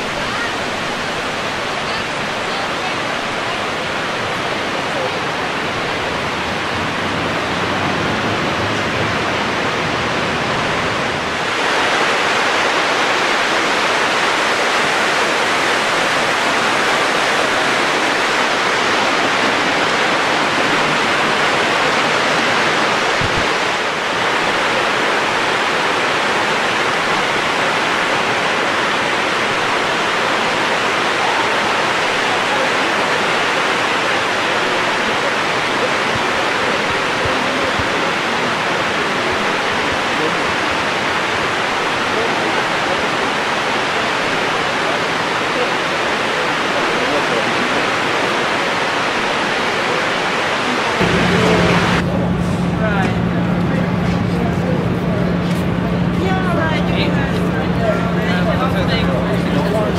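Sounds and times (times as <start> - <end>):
rush of falling water: 0.0 - 59.9.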